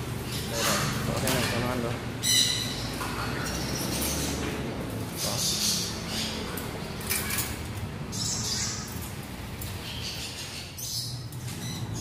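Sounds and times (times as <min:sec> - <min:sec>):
parrots squawking: 0:00.2 - 0:01.6, 0:02.2 - 0:12.0.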